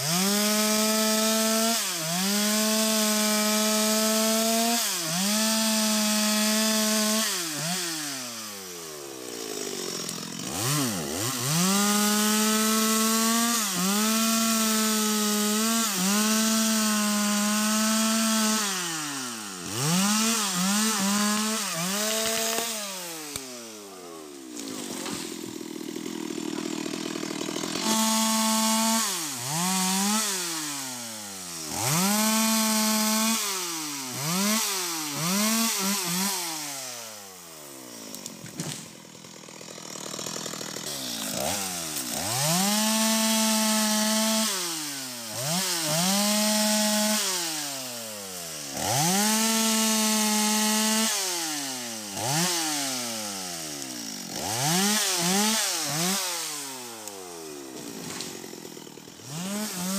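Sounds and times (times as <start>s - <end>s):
chainsaw revving while cutting: 0.0s - 59.9s.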